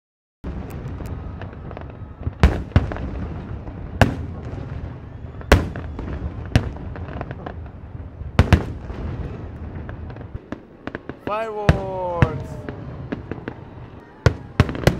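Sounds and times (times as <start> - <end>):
fireworks rumbling and crackling: 0.4 - 14.9.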